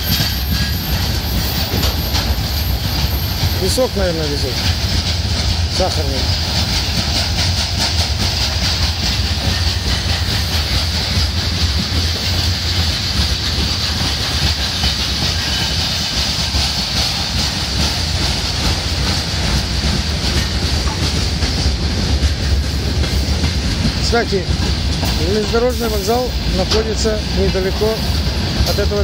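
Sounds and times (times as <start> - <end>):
train wheels rumbling on rails: 0.0 - 29.0
wheels clickety-clack: 0.0 - 29.0.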